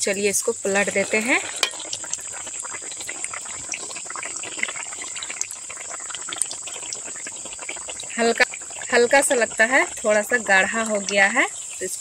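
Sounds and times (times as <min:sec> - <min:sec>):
dough deep-frying in oil: 0:00.0 - 0:12.0.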